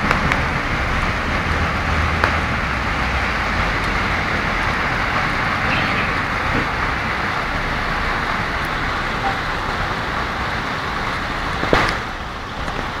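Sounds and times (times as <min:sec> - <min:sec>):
hail and rain falling: 0:00.0 - 0:13.0.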